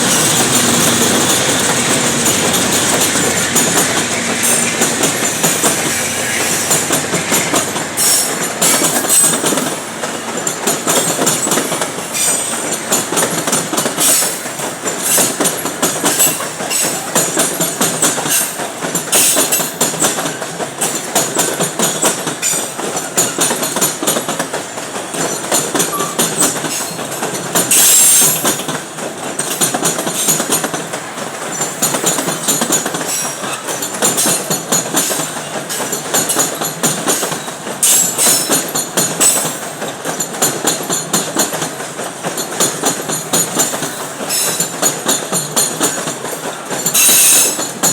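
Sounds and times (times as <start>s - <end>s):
freight train wheels rumbling: 0.0s - 47.9s
wheels clicking over rail joints: 0.0s - 47.9s.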